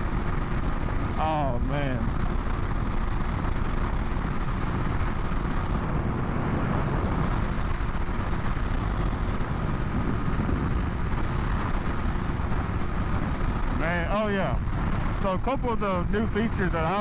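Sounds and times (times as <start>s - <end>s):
road noise: 0.0s - 17.0s
wind rush: 0.0s - 17.0s.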